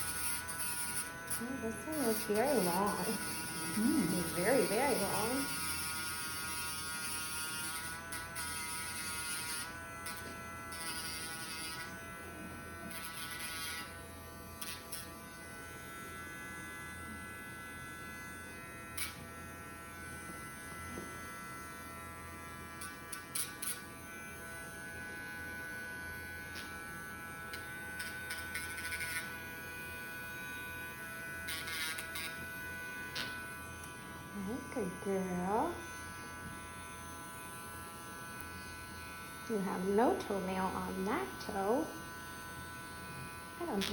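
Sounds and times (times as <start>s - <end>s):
electric nail grinder buzzing: 0.0s - 43.9s.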